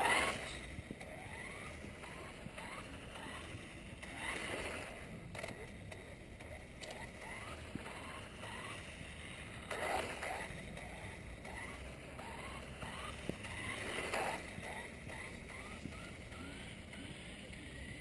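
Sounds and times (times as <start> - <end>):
rc car motor revving: 0.0 - 18.0.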